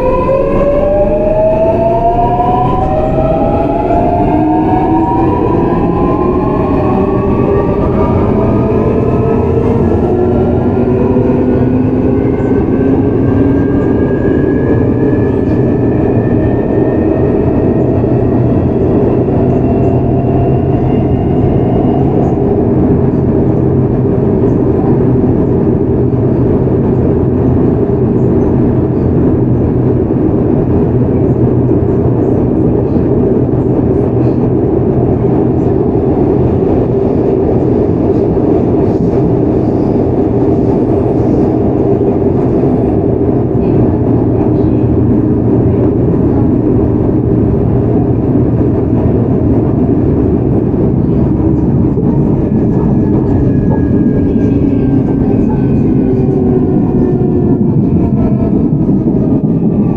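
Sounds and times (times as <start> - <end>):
rail running noise: 0.0 - 59.9.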